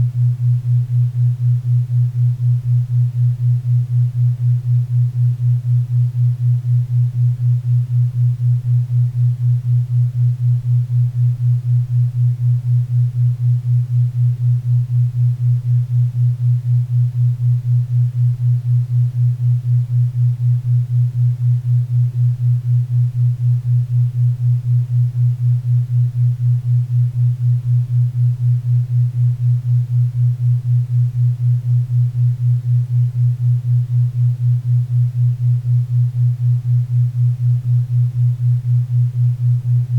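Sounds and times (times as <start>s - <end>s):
low pulsing hum tone: 0.0s - 39.9s.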